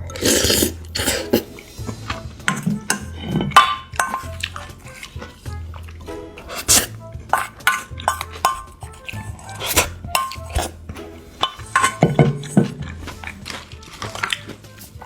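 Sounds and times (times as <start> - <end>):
cutlery clinking against dishes: 0.0 - 5.4, 6.4 - 15.0
background music: 0.0 - 15.0.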